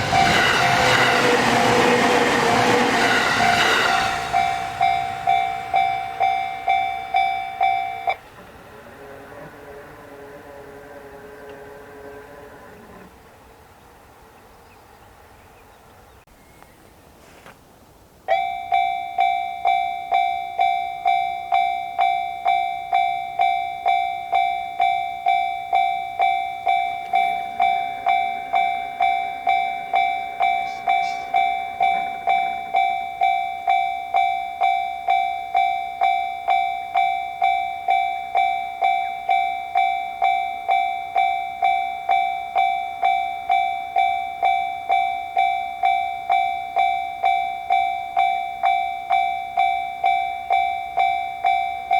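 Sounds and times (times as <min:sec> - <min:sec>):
railroad crossing warning bell: 0:00.0 - 0:13.7, 0:18.2 - 0:51.9.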